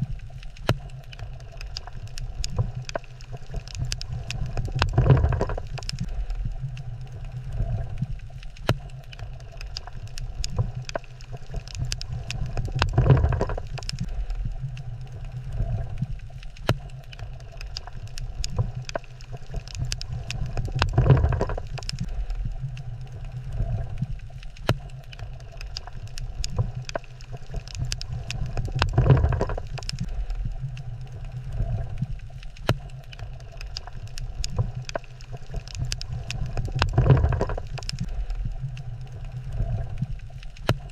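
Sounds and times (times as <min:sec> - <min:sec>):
underwater low rumble: 0:00.0 - 0:40.9.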